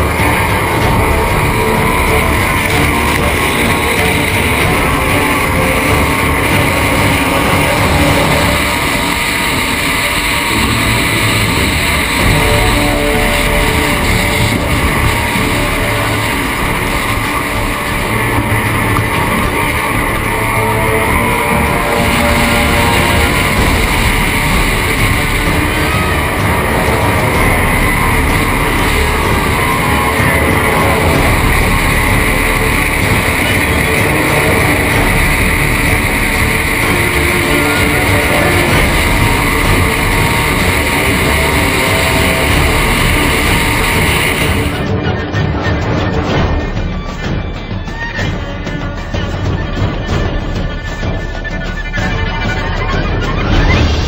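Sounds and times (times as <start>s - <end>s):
powerboat engine: 0.0s - 44.9s
rock music with electric guitar: 0.0s - 54.0s.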